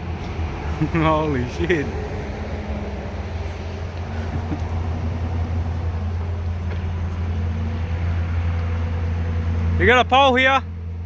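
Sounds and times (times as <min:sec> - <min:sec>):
vehicle engine running steadily: 0:00.0 - 0:11.0.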